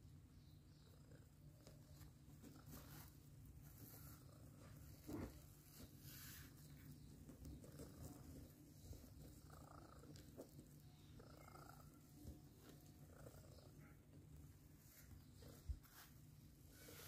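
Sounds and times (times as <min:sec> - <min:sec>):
cat purring: 0:00.1 - 0:17.0.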